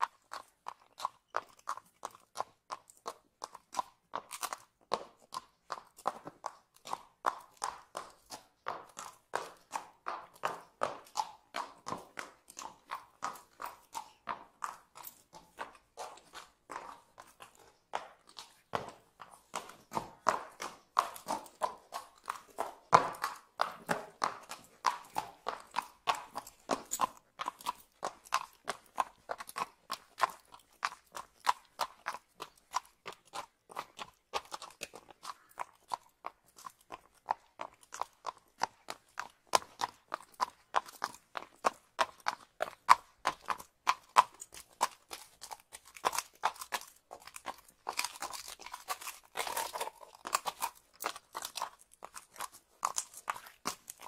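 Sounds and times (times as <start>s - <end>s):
horse hooves on pavement: 0.0s - 54.0s.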